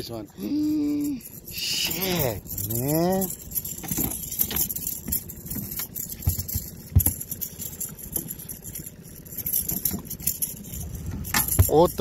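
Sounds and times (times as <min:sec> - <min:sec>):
fish flopping on a boat deck: 0:01.4 - 0:11.8.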